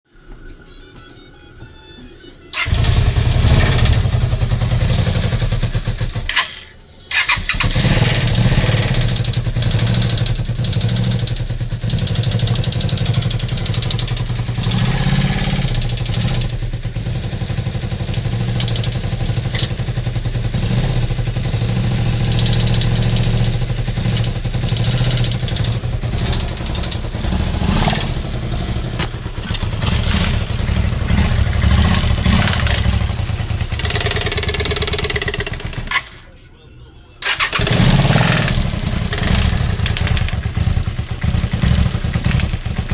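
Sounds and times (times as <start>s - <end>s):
engine knocking: 2.6s - 6.4s, 7.1s - 36.0s, 37.2s - 42.9s
motorcycle engine running: 2.6s - 36.1s, 37.2s - 42.9s.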